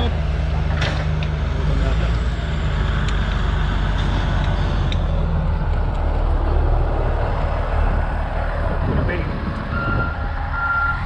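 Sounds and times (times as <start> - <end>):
large vehicle engine rumbling: 0.0 - 11.0
road noise: 0.0 - 11.0.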